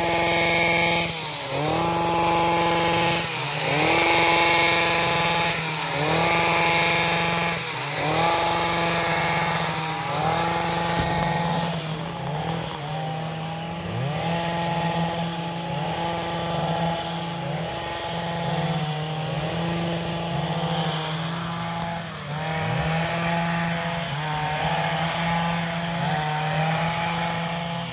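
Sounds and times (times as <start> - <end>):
small petrol engines revving: 0.0 - 27.9.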